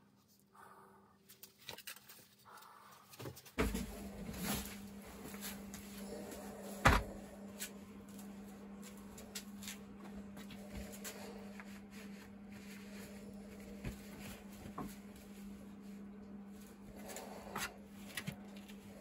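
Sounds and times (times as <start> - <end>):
steady low hum: 2.3 - 19.0.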